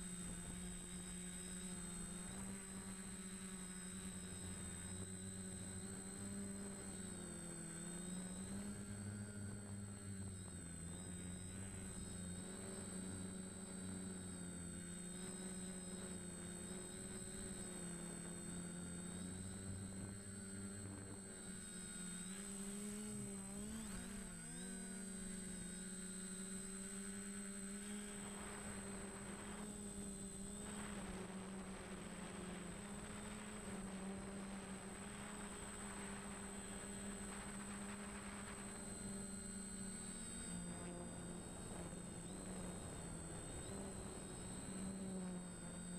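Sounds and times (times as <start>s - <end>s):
drone motors and propellers: 0.0s - 45.9s.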